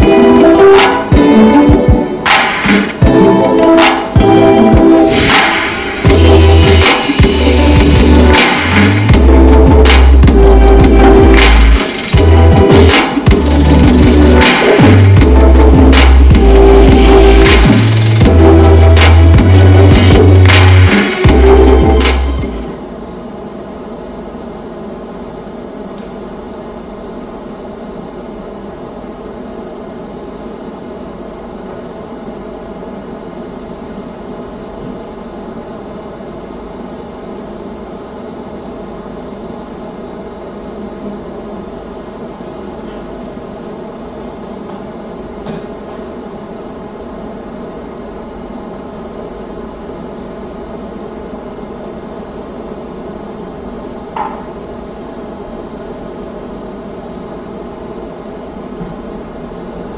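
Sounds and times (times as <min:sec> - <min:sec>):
steady room hum: 0:00.0 - 0:59.9.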